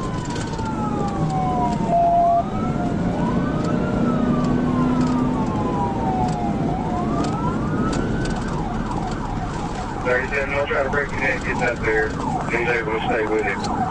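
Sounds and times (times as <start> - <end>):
car engine and road noise: 0.0 - 13.9
loud steady siren tone: 0.0 - 13.9
police siren wailing: 0.0 - 13.9.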